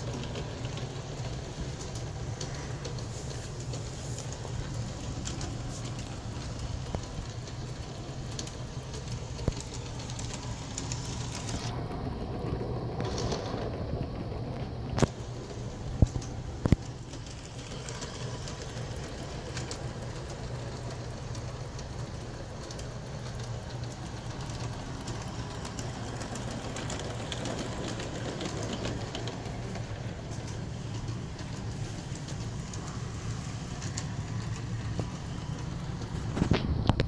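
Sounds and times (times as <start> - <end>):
train wheels clicking over rails: 0.0 - 37.0.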